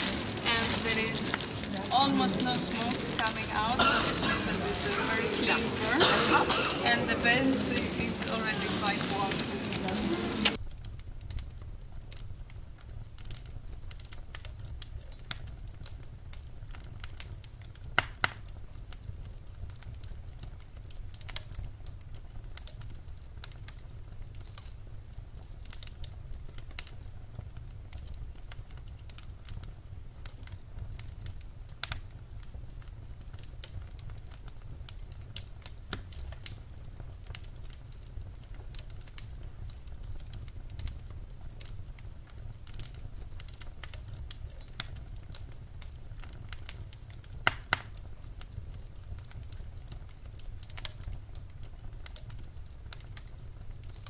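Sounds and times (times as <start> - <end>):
low stove rumble: 0.0 - 54.0
wood fire crackling: 0.0 - 54.0.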